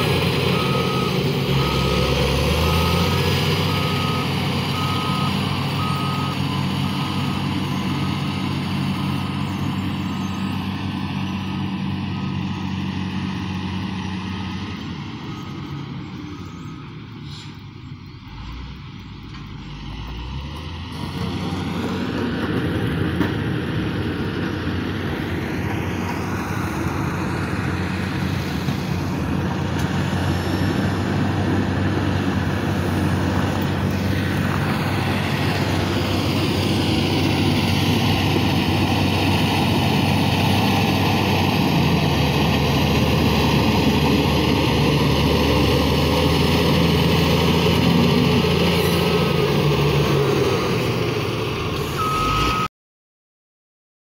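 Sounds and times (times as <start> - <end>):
heavy diesel engine running: 0.0 - 52.7.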